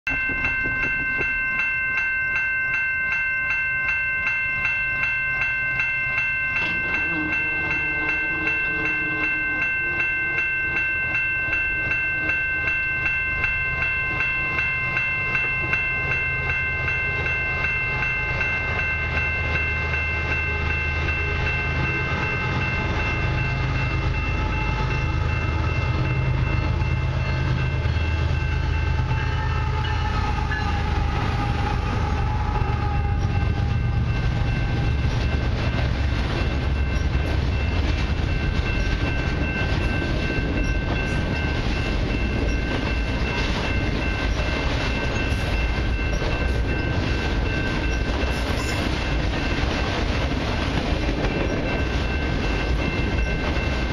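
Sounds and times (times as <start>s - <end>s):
diesel locomotive rumble: 0.1s - 53.9s
warning bell ringing: 0.1s - 53.9s.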